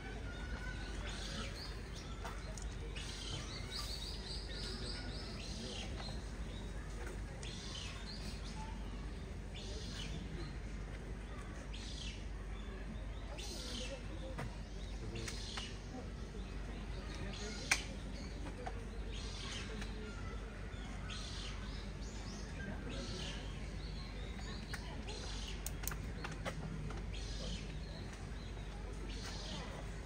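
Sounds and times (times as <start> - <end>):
distant voices: 0.0 - 30.0
small birds chirping: 0.0 - 30.0.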